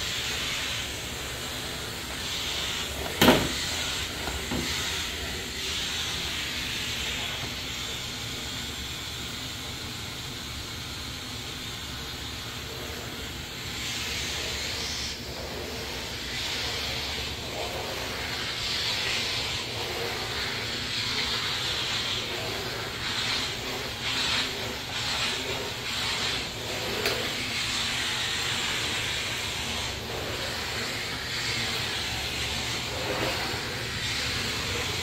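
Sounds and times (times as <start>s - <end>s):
steam cleaner hissing: 0.0s - 35.0s.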